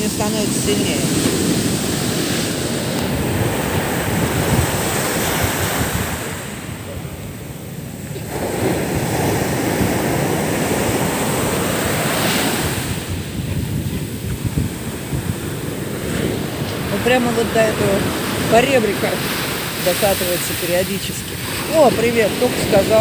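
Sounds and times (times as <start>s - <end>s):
waves crashing on a beach: 0.0s - 23.0s.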